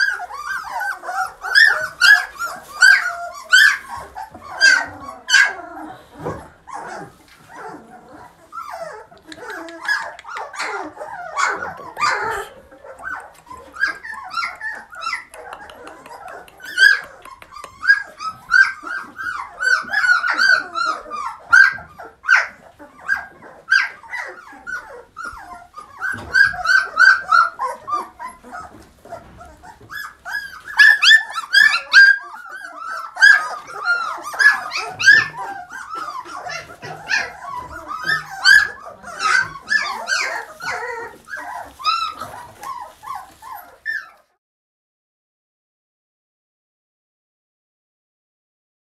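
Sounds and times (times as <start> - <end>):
puppies whining and yelping: 0.0 - 44.4.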